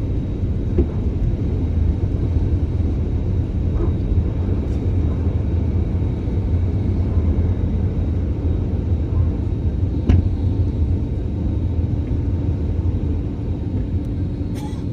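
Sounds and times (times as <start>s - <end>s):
jet engines during takeoff: 0.0s - 14.9s.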